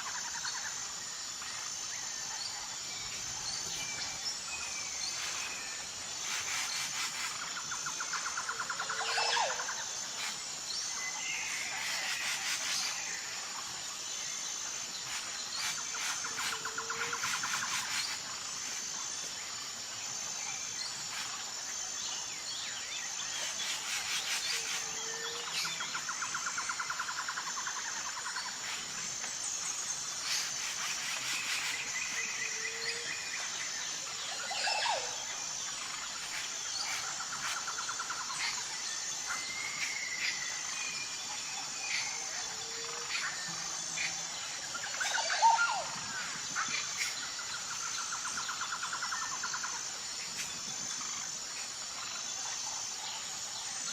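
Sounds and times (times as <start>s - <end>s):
high-pitched insect trill: 0.0s - 53.9s.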